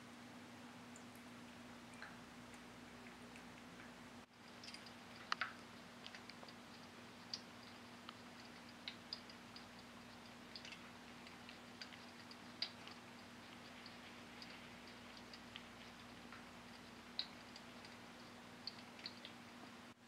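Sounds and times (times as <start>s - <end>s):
faint steady hum: 0.0s - 20.0s
pet water fountain running: 0.9s - 20.0s
soft ticks: 1.0s - 19.8s
cats lapping water splashes: 1.0s - 20.0s.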